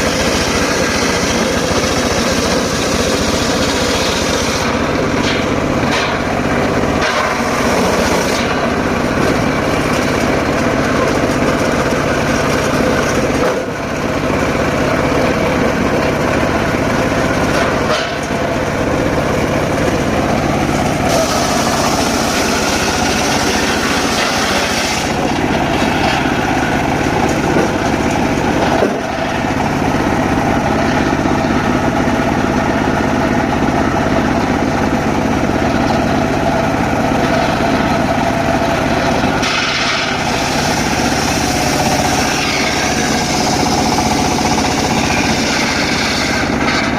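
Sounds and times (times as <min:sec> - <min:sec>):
circular sawmill sawing logs: 0:00.0 - 0:46.9.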